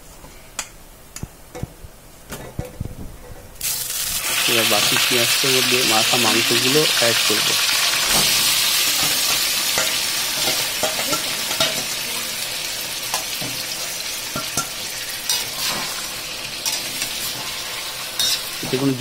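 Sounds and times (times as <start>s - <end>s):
chicken sizzling in hot oil: 3.6s - 19.0s.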